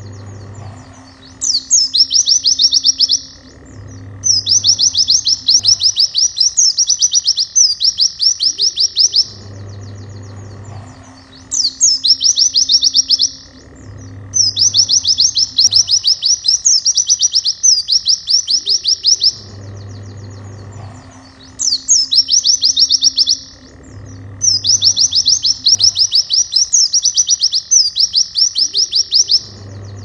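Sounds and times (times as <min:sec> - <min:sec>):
bird singing rapid trills: 0:00.0 - 0:30.0
faint low hum: 0:00.0 - 0:30.0.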